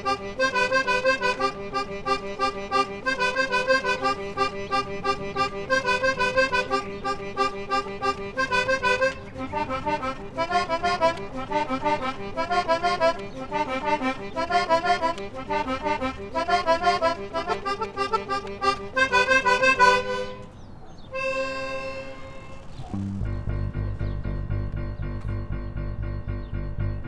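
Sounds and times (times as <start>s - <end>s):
toy accordion playing chords: 0.0s - 27.0s.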